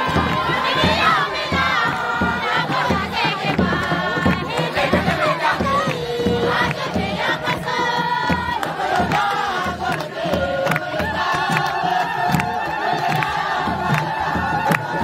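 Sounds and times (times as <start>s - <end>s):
crowd singing a hymn: 0.0s - 15.0s
rhythmic hand clapping: 0.0s - 15.0s.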